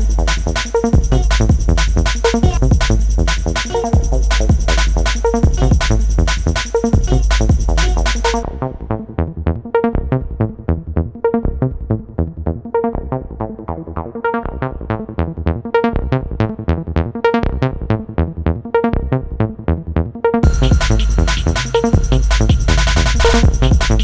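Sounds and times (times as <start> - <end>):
electronic music with a beat: 0.0 - 24.0.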